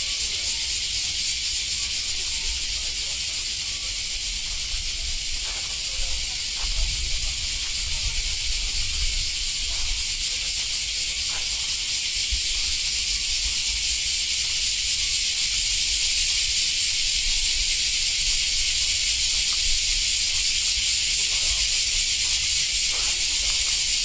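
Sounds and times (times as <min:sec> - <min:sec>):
faint voices: 0:00.0 - 0:14.5, 0:18.4 - 0:24.0
loud high-pitched hiss: 0:00.0 - 0:24.0.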